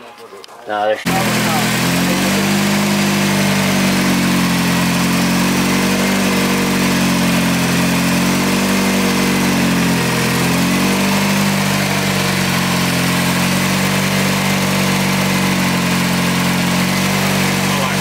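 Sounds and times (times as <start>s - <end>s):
car engine idling: 1.1s - 18.0s.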